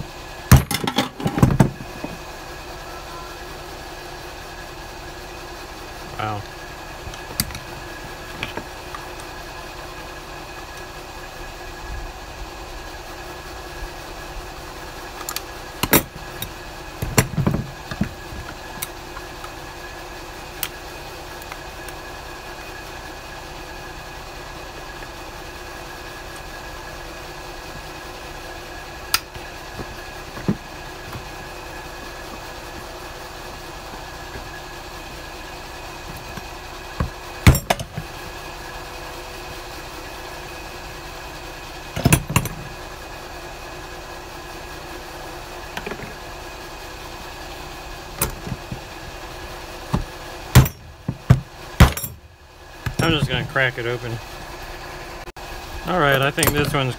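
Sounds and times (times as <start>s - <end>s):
steady background hum: 0.0s - 56.9s.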